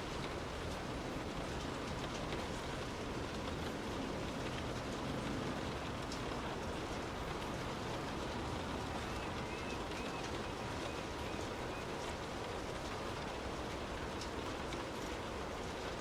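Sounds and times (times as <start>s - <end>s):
rain on car roof: 0.0s - 16.0s
raindrop ticks: 0.0s - 16.0s.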